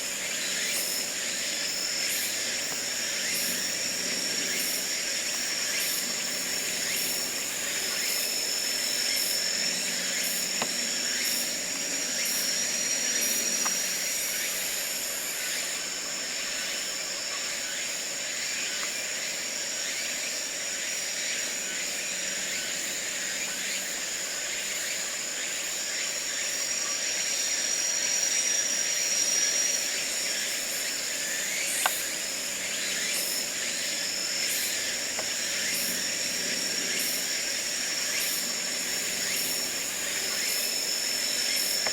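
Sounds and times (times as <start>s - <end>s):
insects trilling: 0.0s - 41.9s
pulsed insect chirp: 0.0s - 41.9s.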